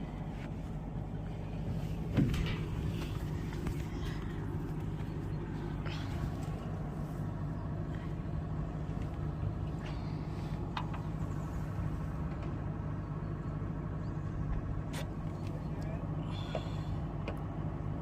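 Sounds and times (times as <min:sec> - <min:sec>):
generator engine humming: 0:00.0 - 0:18.0.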